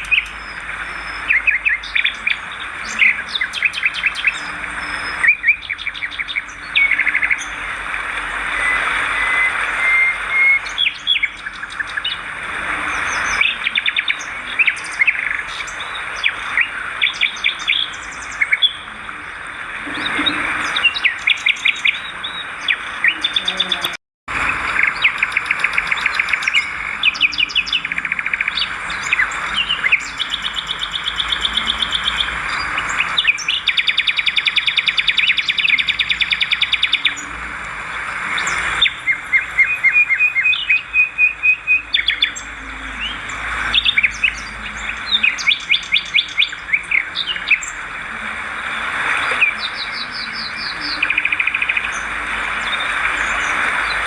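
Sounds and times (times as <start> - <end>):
swiftlets twittering: 0.0 - 54.0.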